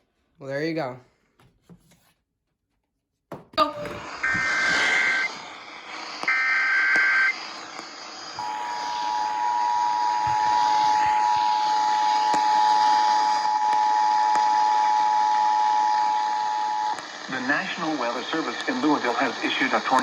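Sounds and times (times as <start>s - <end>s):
harsh two-tone data screech: 3.6s - 20.0s
steady dual tone attention signal: 3.6s - 20.0s.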